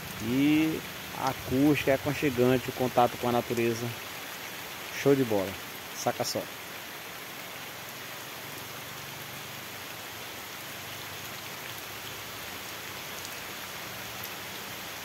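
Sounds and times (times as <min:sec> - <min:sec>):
rain pattering on thatch roof: 0:00.0 - 0:15.0.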